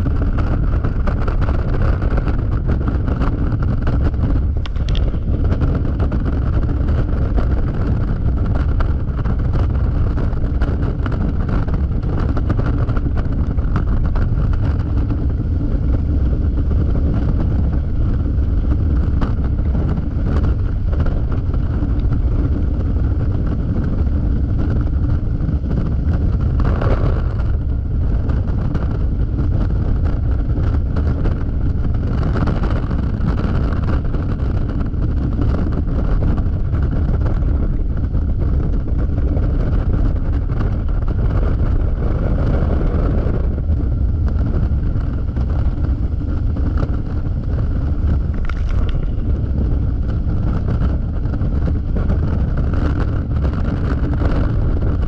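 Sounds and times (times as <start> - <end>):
scooter engine rumbling: 0.0 - 55.0
wind on microphone: 0.0 - 55.0.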